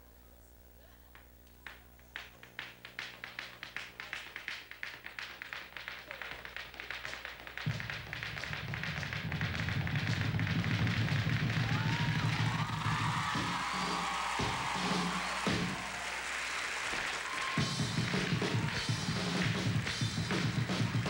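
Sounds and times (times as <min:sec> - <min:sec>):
rhythmic taps on stage floor: 0:01.1 - 0:21.0.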